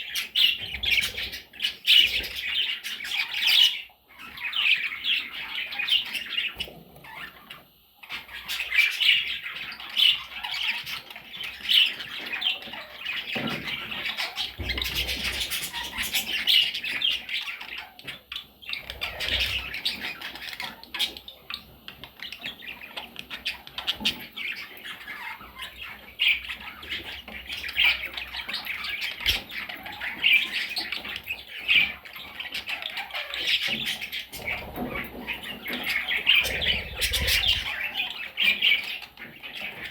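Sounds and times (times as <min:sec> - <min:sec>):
budgerigars squawking and chirping: 0:00.0 - 0:39.9.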